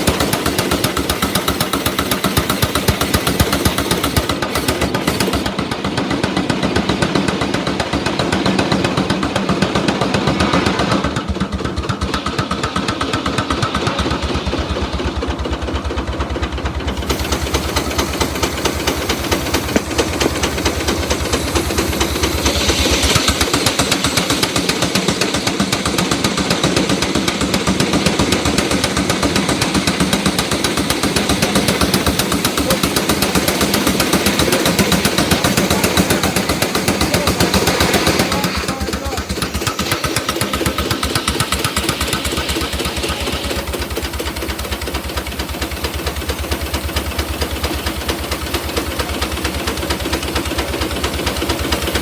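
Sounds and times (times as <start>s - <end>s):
hiss: 0.0s - 15.5s, 16.4s - 52.0s
engine running steadily: 0.0s - 52.0s.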